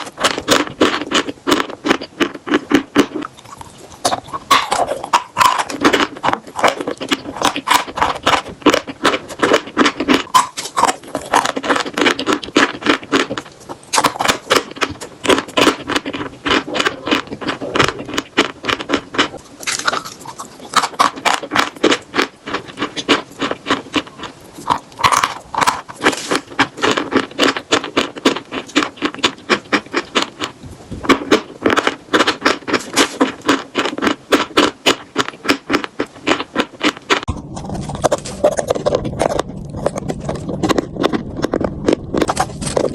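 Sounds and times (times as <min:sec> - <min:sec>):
chalk being bitten and chewed: 0:00.0 - 0:42.9.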